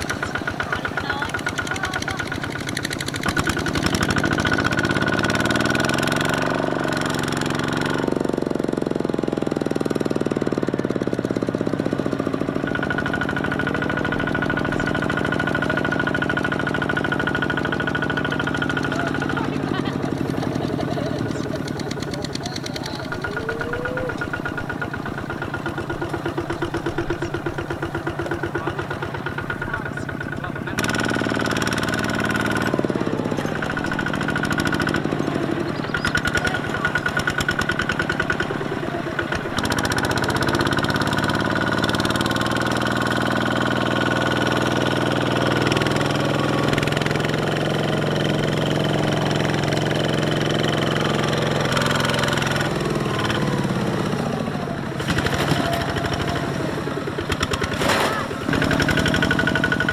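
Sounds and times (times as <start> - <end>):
diesel tractor engine chugging: 0.0 - 59.9.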